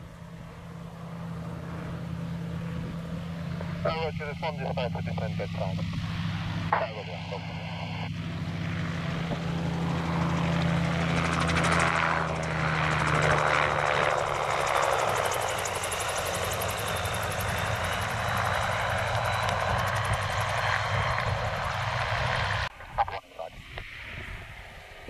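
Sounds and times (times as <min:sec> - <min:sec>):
gyroplane flying past: 0:00.0 - 0:25.0.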